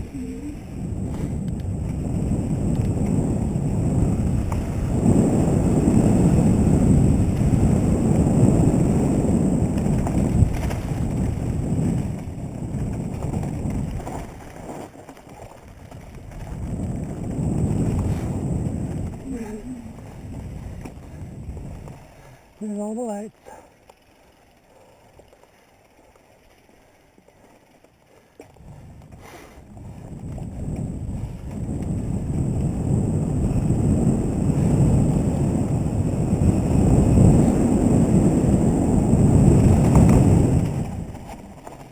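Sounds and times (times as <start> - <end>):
wind rushing over microphone: 0.0 - 14.8, 15.6 - 23.3, 28.5 - 41.9
bike ride rumble: 0.0 - 41.9.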